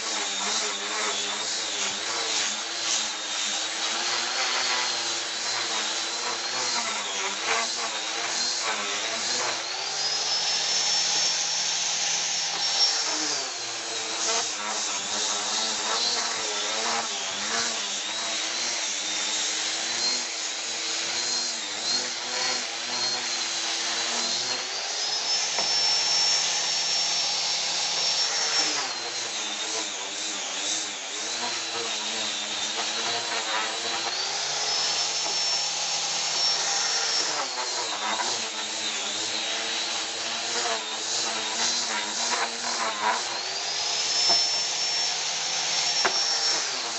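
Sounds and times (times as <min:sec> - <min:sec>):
wood router whining: 0:00.0 - 0:46.9.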